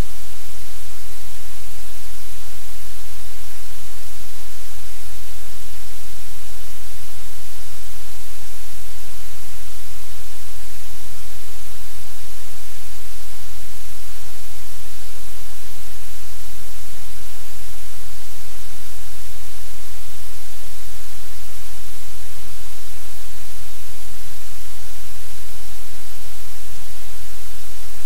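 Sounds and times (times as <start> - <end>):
static hiss: 0.0 - 28.0.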